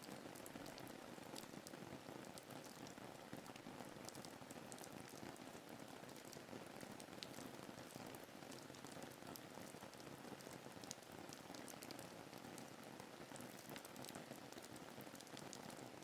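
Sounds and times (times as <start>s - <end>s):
rain drop ticks: 0.0s - 5.2s, 6.1s - 12.7s, 13.3s - 15.9s.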